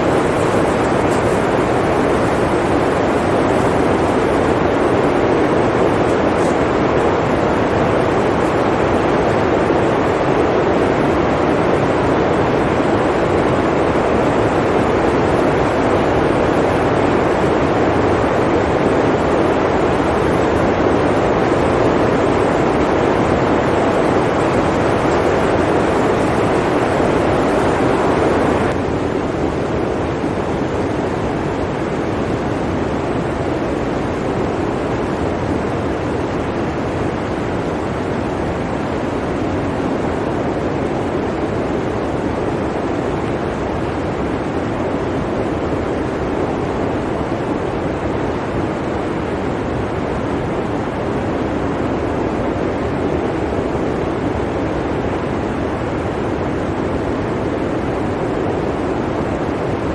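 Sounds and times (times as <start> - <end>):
blizzard wind blowing: 0.0 - 59.9.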